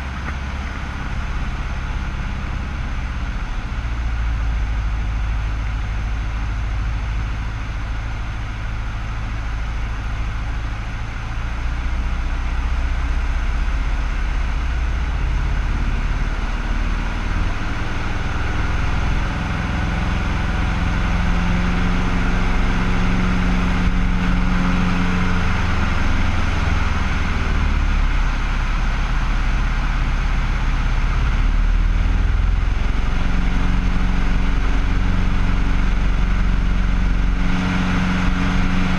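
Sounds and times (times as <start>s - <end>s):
small plane engine and propeller drone: 0.0s - 38.9s.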